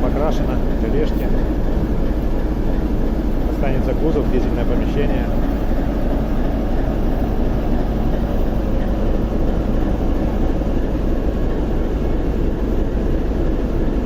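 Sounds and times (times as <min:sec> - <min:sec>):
diesel locomotive engine idling: 0:00.0 - 0:14.0.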